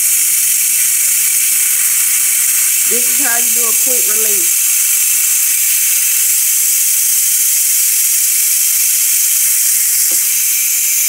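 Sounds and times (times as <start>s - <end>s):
steam hissing from valve: 0.0s - 11.0s.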